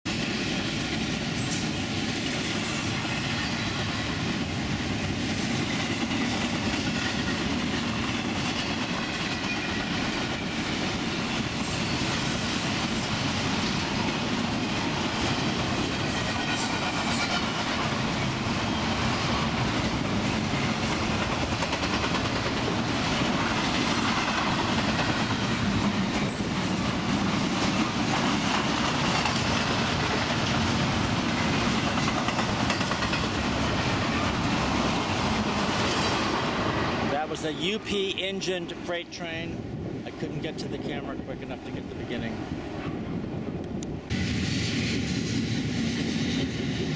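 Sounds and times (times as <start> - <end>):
freight train wheels on rail: 0.0 - 46.9.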